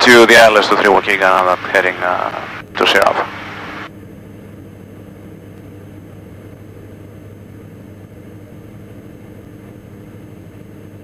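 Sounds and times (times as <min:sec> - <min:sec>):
aircraft engines droning in cockpit: 0:00.0 - 0:11.0.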